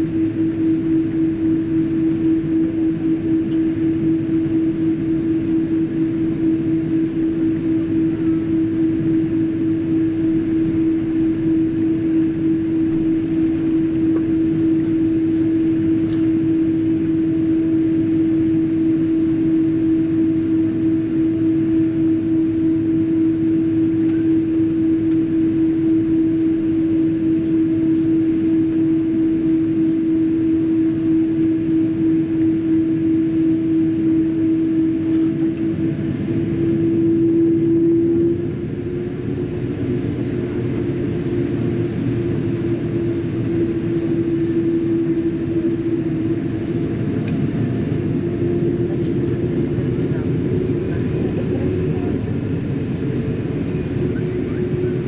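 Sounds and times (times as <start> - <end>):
aircraft cabin engine drone: 0.0 - 55.0
constant hum: 0.0 - 55.0.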